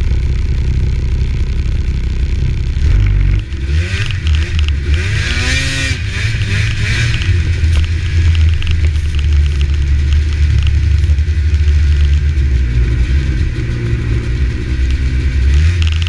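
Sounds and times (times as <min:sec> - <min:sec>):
snowmobile engine revving: 0:02.8 - 0:16.0.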